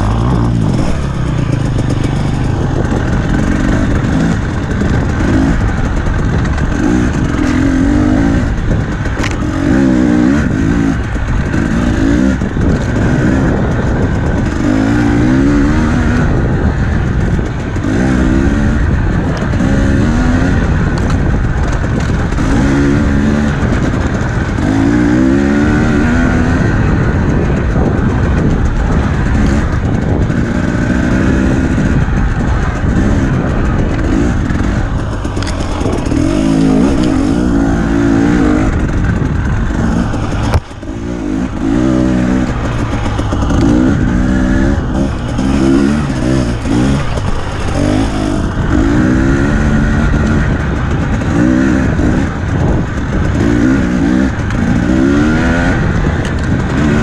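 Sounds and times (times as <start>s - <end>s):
dirt bike engine revving: 0.0s - 57.0s
wind rush: 0.0s - 57.0s.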